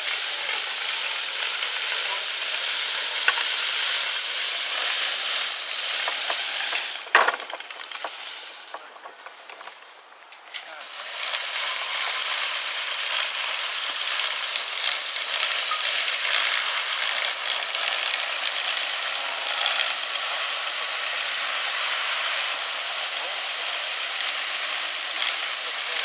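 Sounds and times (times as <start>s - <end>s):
brush scraping along rail: 0.8s - 20.4s, 24.1s - 26.0s.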